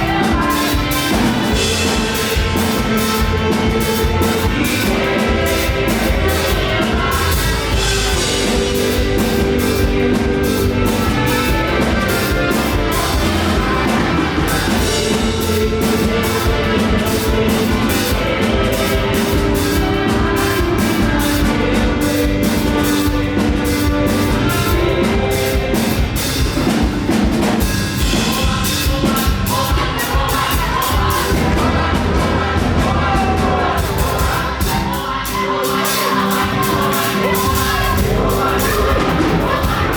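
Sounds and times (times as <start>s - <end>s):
gospel band with drum kit: 0.0s - 39.9s
singing: 0.0s - 39.9s.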